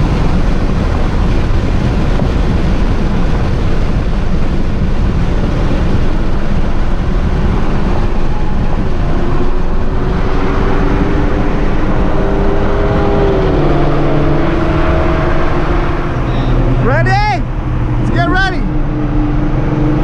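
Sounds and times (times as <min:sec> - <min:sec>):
car engine drone: 0:00.0 - 0:20.0
road and wind noise: 0:00.0 - 0:20.0.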